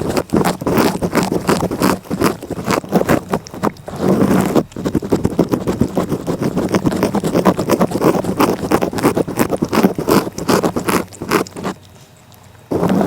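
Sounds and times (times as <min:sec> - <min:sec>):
cat licking: 0:00.0 - 0:13.0.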